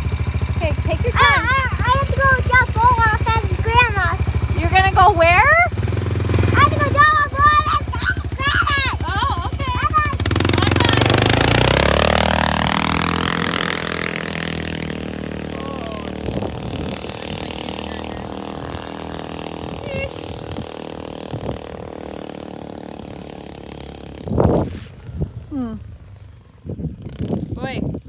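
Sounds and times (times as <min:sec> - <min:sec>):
utility vehicle engine running: 0:00.0 - 0:26.6.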